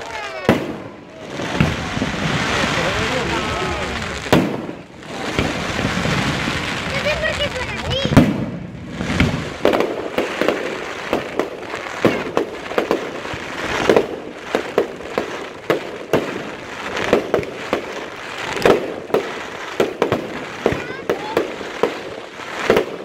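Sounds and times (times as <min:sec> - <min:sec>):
fireworks launching and bursting: 0:00.0 - 0:23.0.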